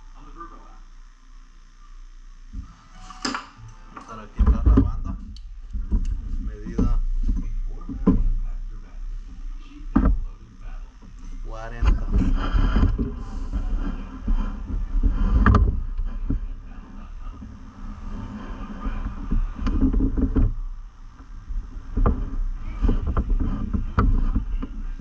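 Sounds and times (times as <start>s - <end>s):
low rumble: 4.1s - 25.0s.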